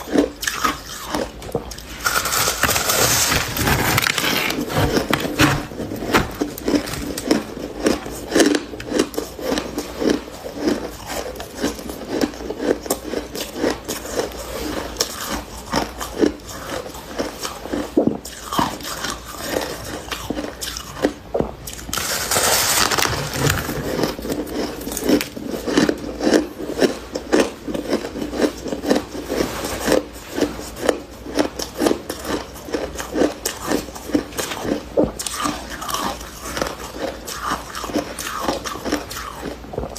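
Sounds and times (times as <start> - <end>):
frost being bitten and chewed: 0.0 - 3.3, 6.4 - 39.9.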